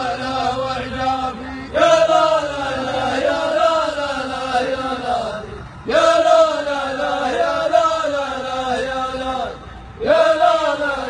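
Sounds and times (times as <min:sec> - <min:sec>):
men chanting verse: 0:00.0 - 0:11.0.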